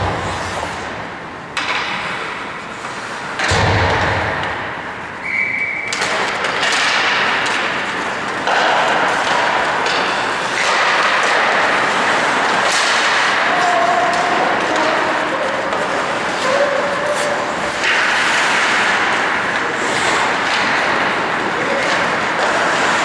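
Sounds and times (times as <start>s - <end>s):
skate blades scraping ice: 0.0s - 1.1s, 1.9s - 3.4s, 5.8s - 23.0s
hockey sticks and puck clacking: 0.0s - 23.0s.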